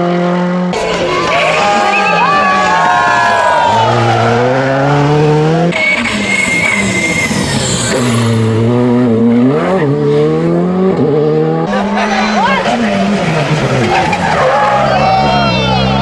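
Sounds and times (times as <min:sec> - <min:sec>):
car engine accelerating: 0:00.0 - 0:16.0
tyre squeal skidding: 0:00.8 - 0:10.9, 0:11.7 - 0:16.0.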